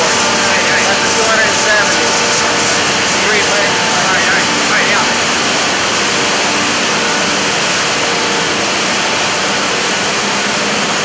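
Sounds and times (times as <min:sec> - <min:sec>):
faint high whine: 0:00.0 - 0:11.0
machinery roaring: 0:00.0 - 0:11.0.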